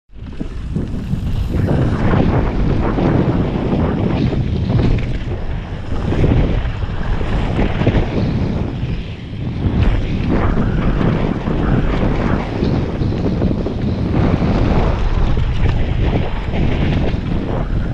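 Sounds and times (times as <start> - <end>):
bike rattling: 0.1 - 17.9
wind buffeting microphone: 0.1 - 17.9.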